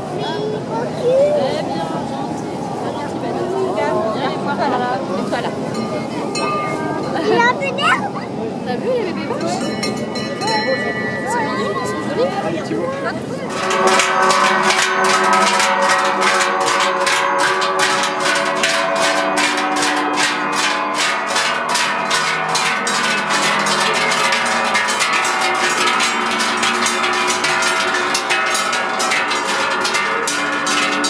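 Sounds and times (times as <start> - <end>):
cowbells clanging: 1.4 - 31.0.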